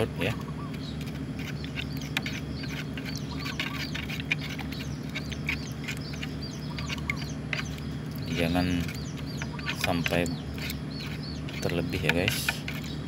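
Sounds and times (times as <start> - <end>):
birds chirping and calling: 0.0 - 13.0
steady low hum: 0.0 - 13.0.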